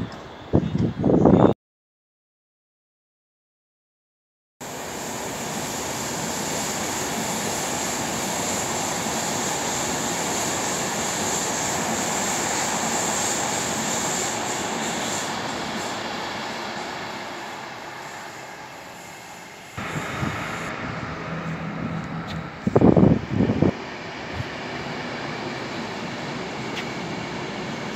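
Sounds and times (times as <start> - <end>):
train rushing on track: 4.6 - 27.9.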